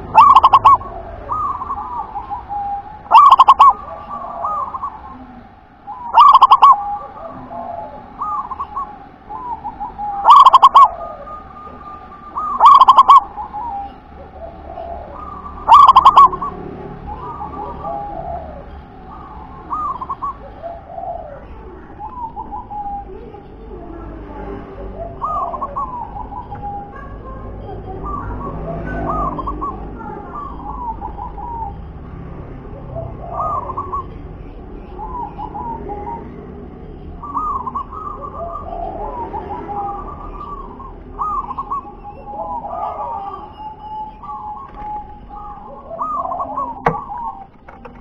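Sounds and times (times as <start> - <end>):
dove cooing song: 0.0 - 48.0.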